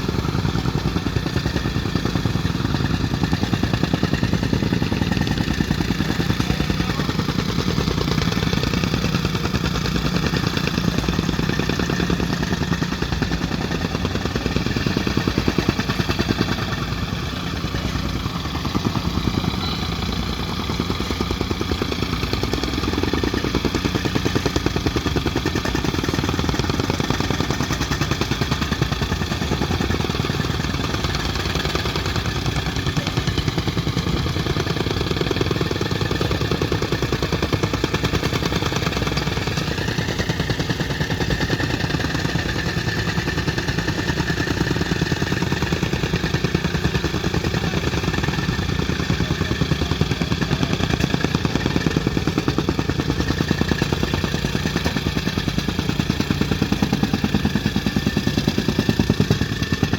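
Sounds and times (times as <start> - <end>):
engine running with rapid pulsing: 0.0 - 59.9.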